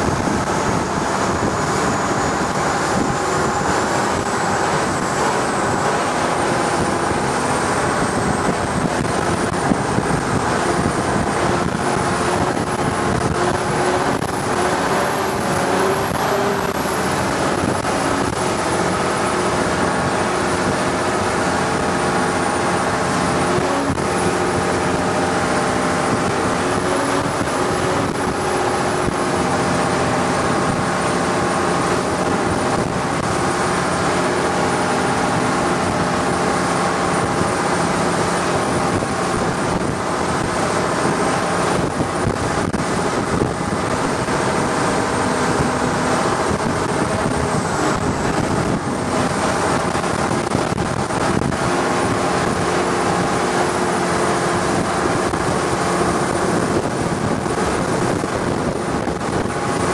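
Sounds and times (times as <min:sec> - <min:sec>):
boat engine running: 0:00.0 - 0:59.9
wind and water rushing: 0:00.0 - 0:59.9.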